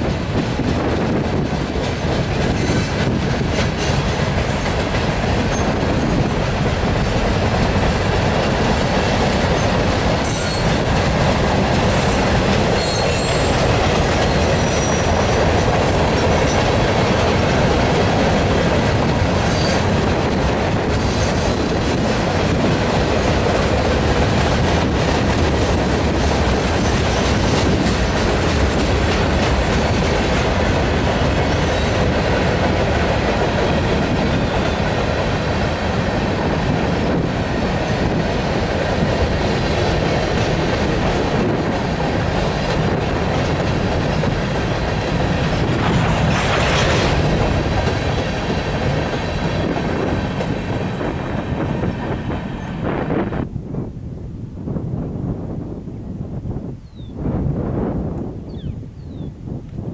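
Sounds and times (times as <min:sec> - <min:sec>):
train wheels rumbling and clacking: 0:00.0 - 0:53.6.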